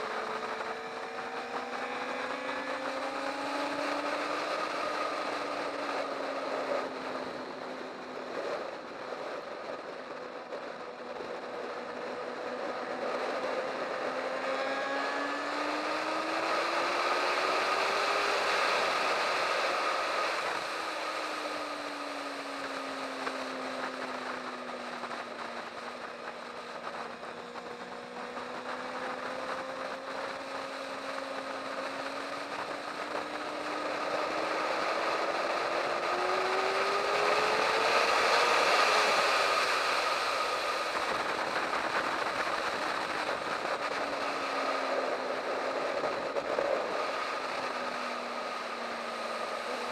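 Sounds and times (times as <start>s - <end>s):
motorcycle engine at speed: 0.0s - 49.9s.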